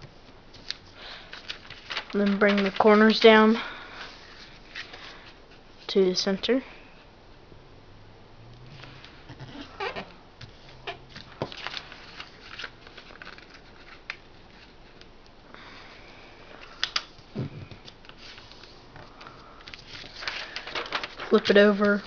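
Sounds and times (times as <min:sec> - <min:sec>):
paper folding and crinkling: 0:00.5 - 0:05.8, 0:08.8 - 0:15.2, 0:15.8 - 0:22.0.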